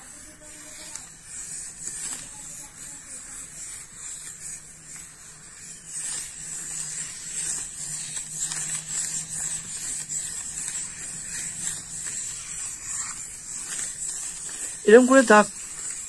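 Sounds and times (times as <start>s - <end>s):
pencil scratching on paper: 0.0s - 16.0s.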